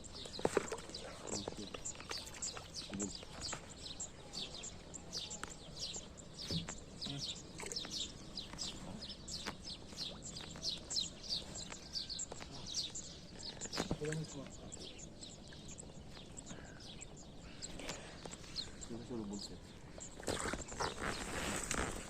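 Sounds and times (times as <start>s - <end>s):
flock of small birds chirping: 0.0s - 22.0s.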